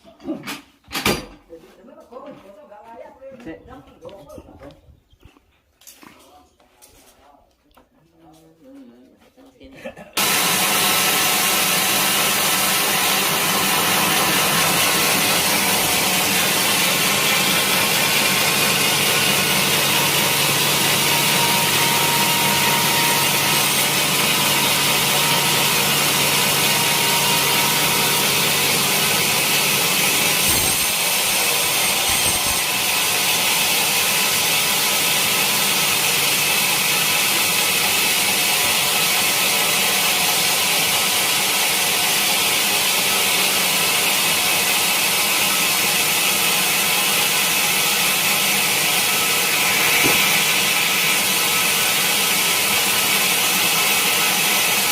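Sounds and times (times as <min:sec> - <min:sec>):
sawmill saw cutting log: 0:10.2 - 0:54.9.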